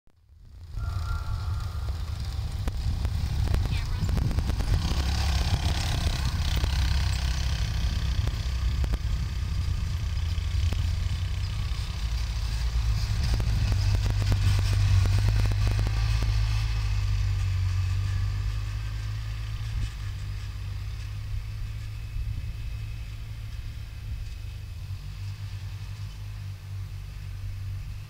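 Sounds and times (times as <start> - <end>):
utility vehicle engine humming: 0.2 - 28.0.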